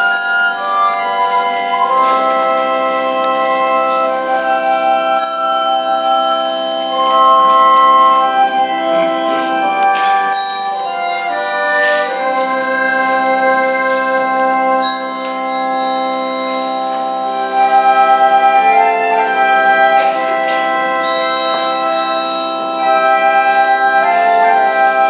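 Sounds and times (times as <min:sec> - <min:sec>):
organ playing sustained chords: 0:00.0 - 0:25.0.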